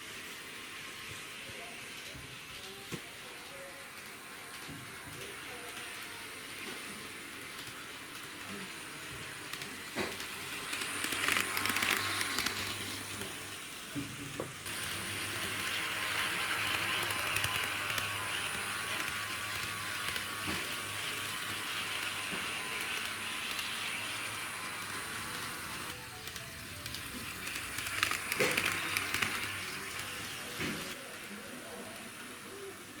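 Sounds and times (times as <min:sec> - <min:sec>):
model train motor whirring: 0:00.0 - 0:33.0.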